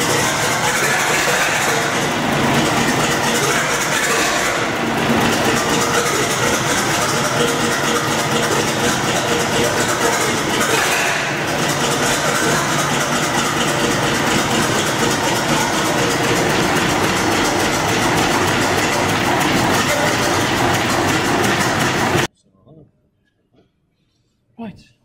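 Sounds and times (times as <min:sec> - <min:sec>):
diesel engine running: 0:00.0 - 0:22.3.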